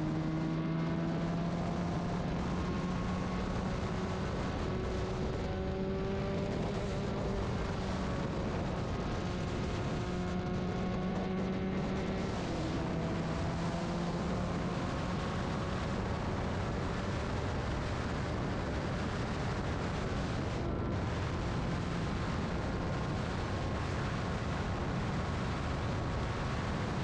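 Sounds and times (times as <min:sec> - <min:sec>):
motorcycle engine droning: 0:00.0 - 0:26.9
wind rushing over microphone: 0:00.0 - 0:27.0.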